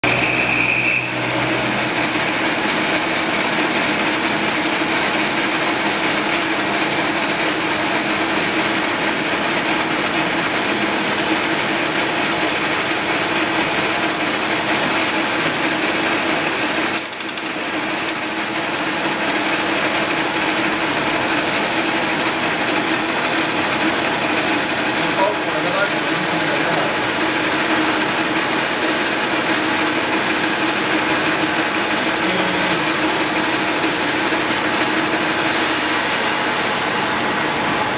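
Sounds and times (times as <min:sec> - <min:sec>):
metal lathe humming: 0:00.0 - 0:25.0, 0:25.8 - 0:37.9.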